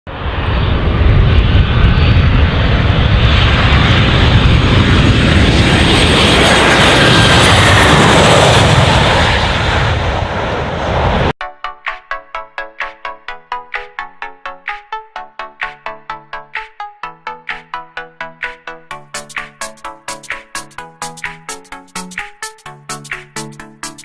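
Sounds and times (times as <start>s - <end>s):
jet engines at high power: 0.1s - 11.4s, 14.9s - 24.0s.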